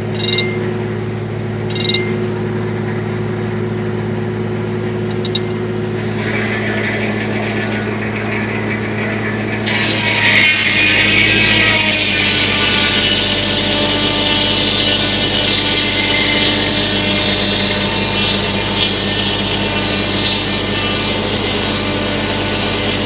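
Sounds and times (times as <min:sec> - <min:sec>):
saw blade cutting log: 0:00.0 - 0:02.7, 0:04.8 - 0:23.0
tractor engine running: 0:00.0 - 0:23.0.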